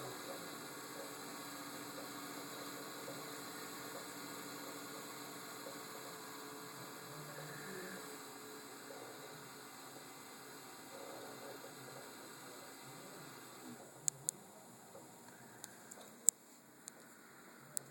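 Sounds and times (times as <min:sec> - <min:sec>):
computer humming and hissing: 0:00.0 - 0:17.9.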